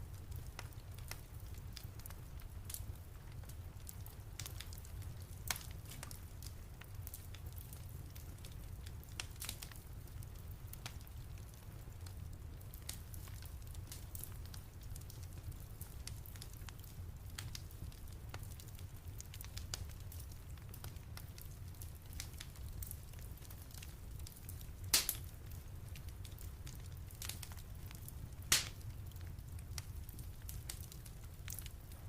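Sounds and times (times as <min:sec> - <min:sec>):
wood fire crackling: 0:00.0 - 0:32.0
fire pops: 0:00.3 - 0:09.8, 0:12.0 - 0:32.0.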